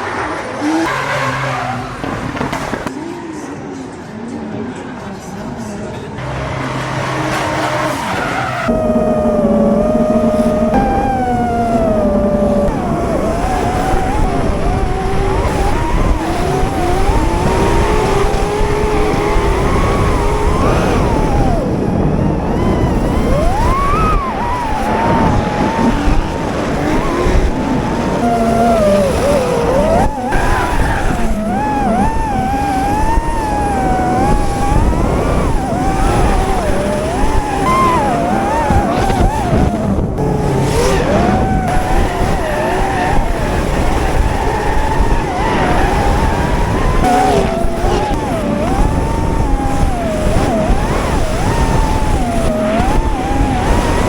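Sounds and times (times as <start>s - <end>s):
motors running with wavering pitch: 6.2s - 54.0s
steady rushing noise: 6.2s - 54.0s.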